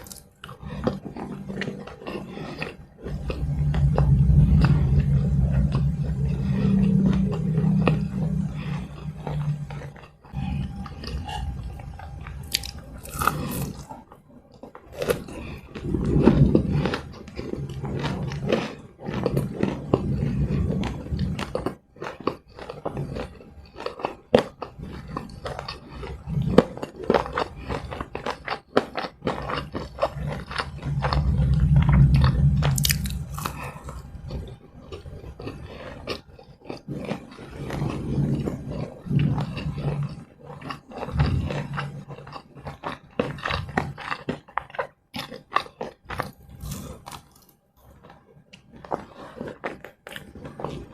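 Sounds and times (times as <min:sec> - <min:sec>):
chewing and crunching snacks: 0:00.0 - 0:50.9.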